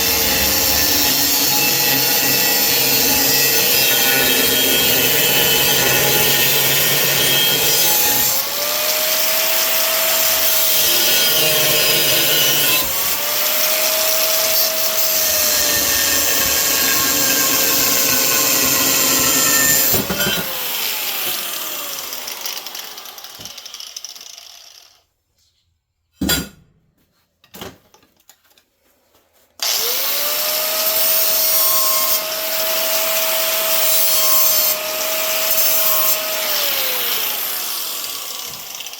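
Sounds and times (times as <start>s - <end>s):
angle grinder grinding steel: 0.0s - 25.0s, 29.6s - 38.9s.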